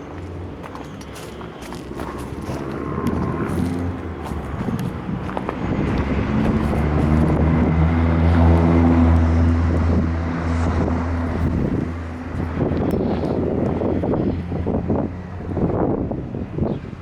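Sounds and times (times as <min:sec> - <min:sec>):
diesel truck engine running: 0:00.0 - 0:16.6.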